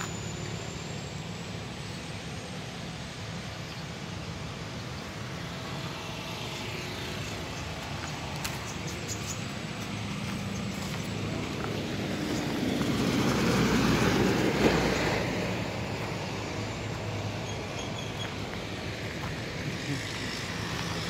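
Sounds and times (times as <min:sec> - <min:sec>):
diesel engine running steadily: 0:00.0 - 0:21.0.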